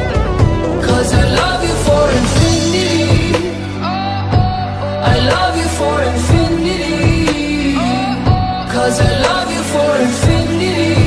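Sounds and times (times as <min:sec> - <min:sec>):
pop music with heavy bass: 0:00.0 - 0:11.0.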